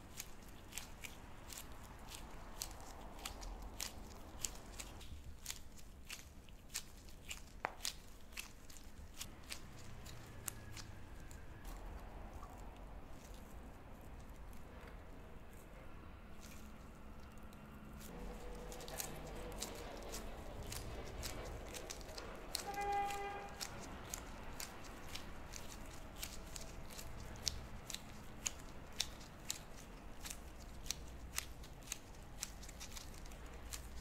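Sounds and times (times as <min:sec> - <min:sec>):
gloves kneading sticky dough: 0:00.0 - 0:34.0.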